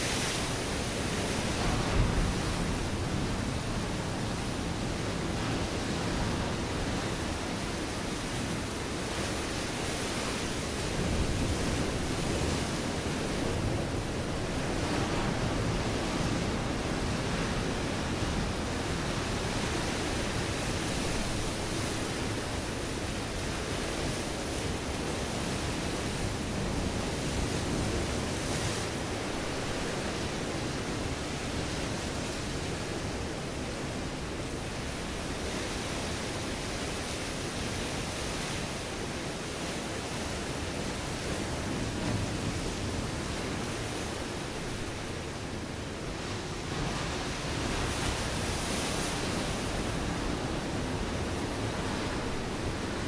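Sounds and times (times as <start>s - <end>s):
waves breaking on rocky shore: 0.0s - 53.0s.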